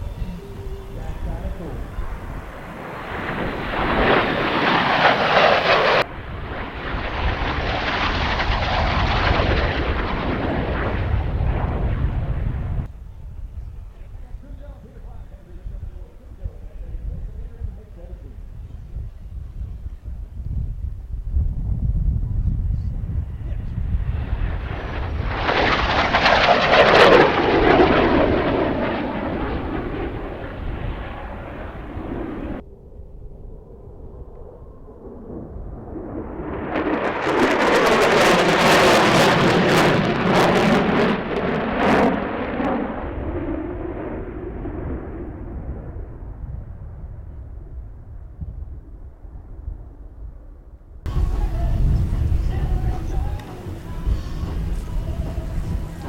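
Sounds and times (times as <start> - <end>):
aircraft engine flying past: 0.0 - 14.2, 22.5 - 48.4, 51.1 - 56.0.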